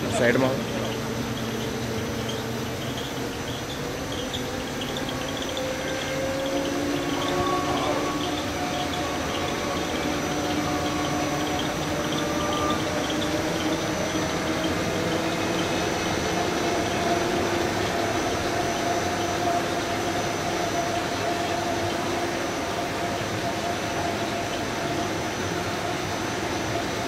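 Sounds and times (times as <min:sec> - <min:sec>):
machine motor hum and whine: 0:00.0 - 0:27.0.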